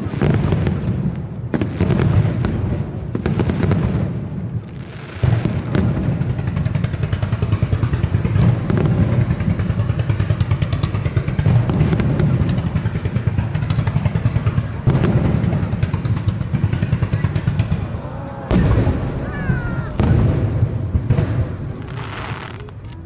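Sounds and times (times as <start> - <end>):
fireworks bursting: 0.0 - 23.0
fireworks crackles: 0.0 - 23.0.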